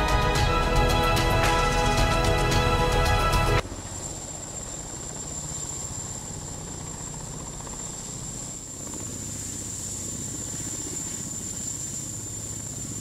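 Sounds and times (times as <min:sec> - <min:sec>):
helicopter rotors chopping: 0:00.0 - 0:13.0.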